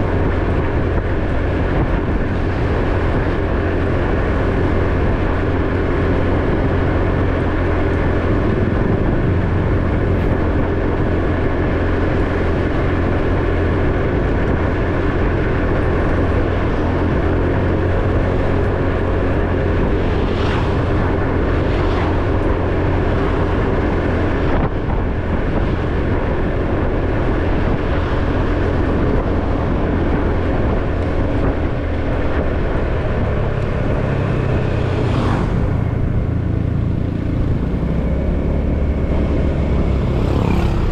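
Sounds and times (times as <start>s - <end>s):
motorcycle engine drone: 0.0s - 40.9s
road noise: 0.0s - 40.9s.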